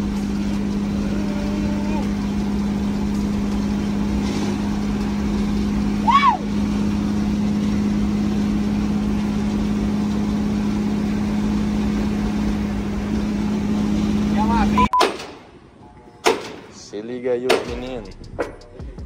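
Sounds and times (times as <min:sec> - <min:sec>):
road rumble: 0:00.0 - 0:19.0
truck engine drone: 0:00.0 - 0:19.0.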